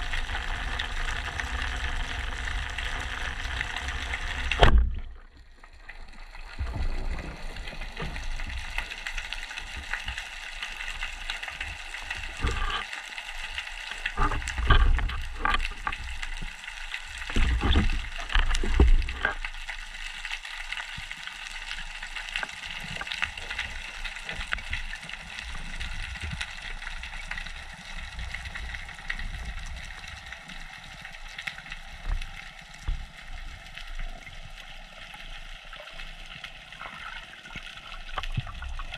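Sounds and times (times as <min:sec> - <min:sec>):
underwater hiss and crackle: 0:00.0 - 0:38.9.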